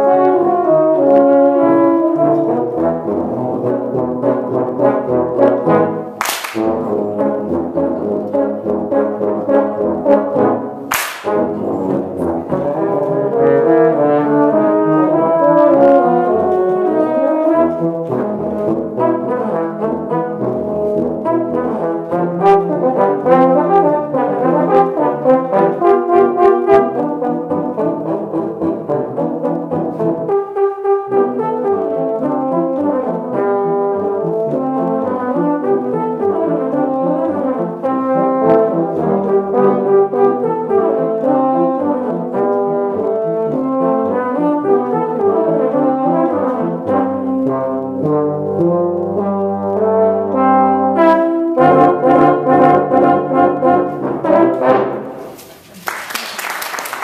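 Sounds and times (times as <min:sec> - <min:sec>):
tuba quartet playing: 0:00.0 - 0:55.4.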